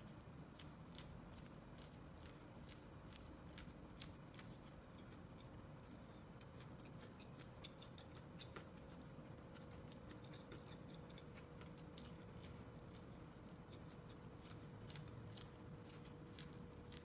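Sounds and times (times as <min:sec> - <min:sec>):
corn being bitten and chewed: 0:00.0 - 0:17.0
faint steady hum: 0:00.0 - 0:17.0.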